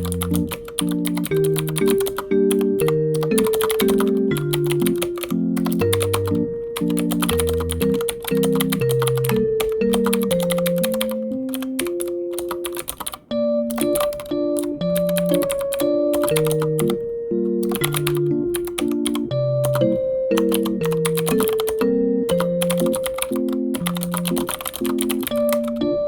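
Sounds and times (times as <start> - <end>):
fast typing on keyboard: 0.0 - 17.0, 17.6 - 26.0
gentle background music: 0.0 - 26.0.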